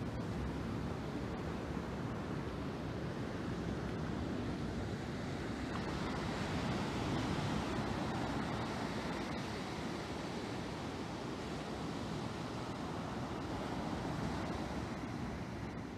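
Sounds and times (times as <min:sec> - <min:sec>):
ocean surf breaking on beach: 0:00.0 - 0:15.9.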